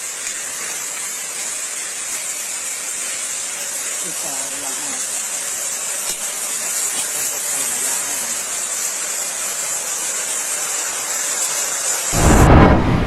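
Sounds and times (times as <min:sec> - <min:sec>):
torrent of water with hailstones: 0:00.0 - 0:12.2.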